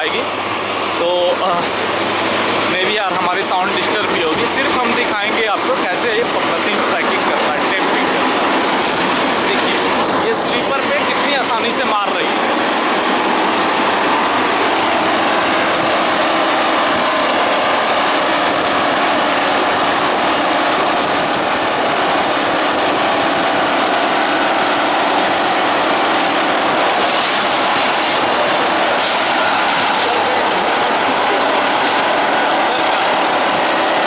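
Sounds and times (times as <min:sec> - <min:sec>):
track tamping machine din: 0:01.0 - 0:34.0.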